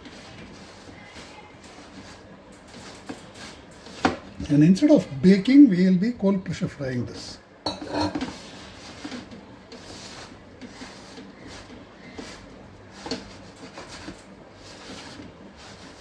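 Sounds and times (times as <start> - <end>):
dough being mixed: 0.0 - 16.0.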